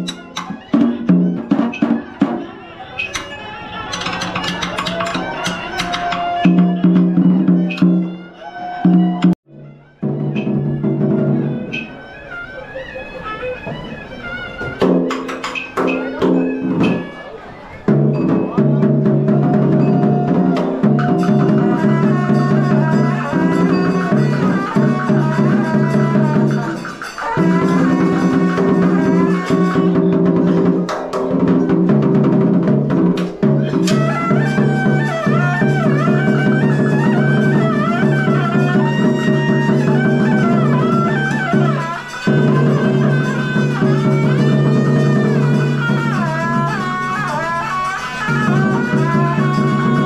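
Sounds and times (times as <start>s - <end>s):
drum strokes: 0.0s - 12.1s, 13.6s - 50.0s
ornamented sliding melody: 0.0s - 50.0s.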